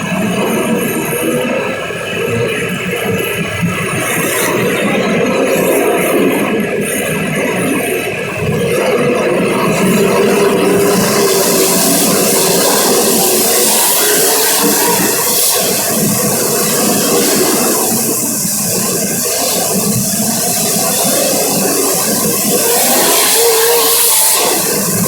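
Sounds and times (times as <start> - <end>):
continuous rushing noise: 0.0 - 25.0
race car engines running: 0.0 - 25.0.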